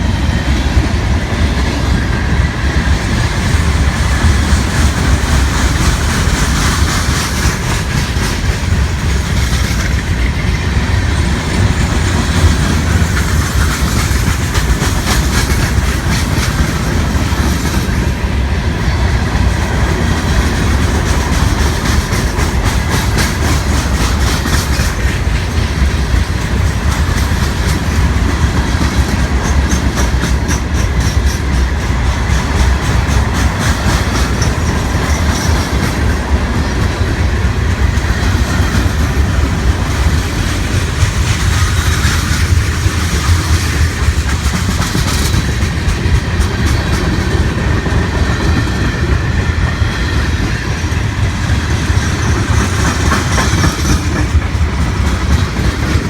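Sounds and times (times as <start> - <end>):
train low rumble: 0.0 - 56.0
wheels clicking over rail joints: 0.0 - 56.0.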